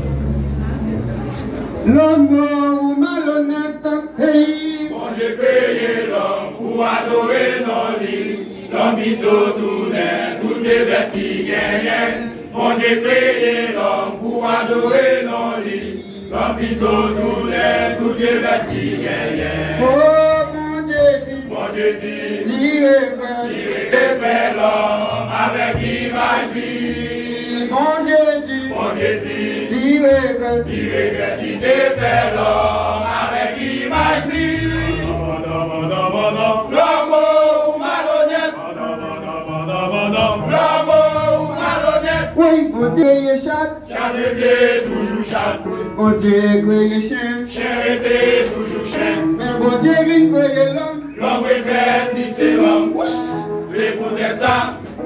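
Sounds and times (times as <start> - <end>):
male vocal group singing: 1.9 - 55.0.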